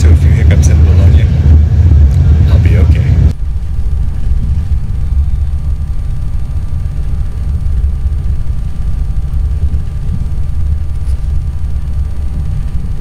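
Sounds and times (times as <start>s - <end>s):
faint steady hum tones: 0.0s - 13.0s
train rumbling at speed: 0.0s - 13.0s.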